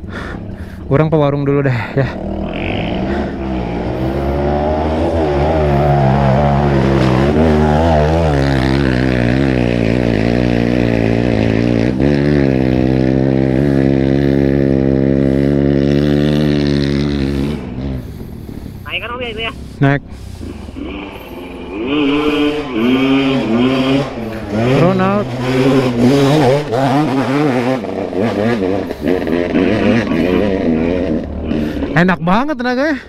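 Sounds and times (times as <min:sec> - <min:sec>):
motorcycle engine revving: 0:01.4 - 0:32.2.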